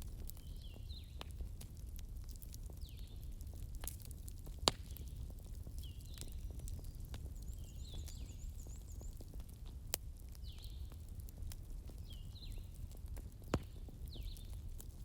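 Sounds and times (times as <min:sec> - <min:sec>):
low rumble of flames: 0:00.0 - 0:15.0
sharp pops of fire: 0:00.0 - 0:15.0
wood fire crackling: 0:00.0 - 0:15.0.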